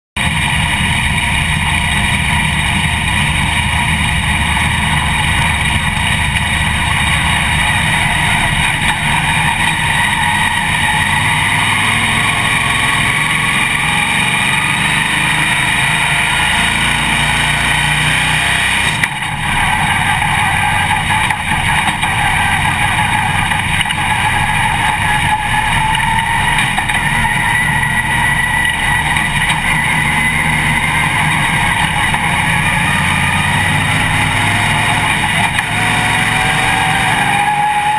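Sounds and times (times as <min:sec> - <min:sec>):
race car engine droning: 0:00.2 - 0:37.9.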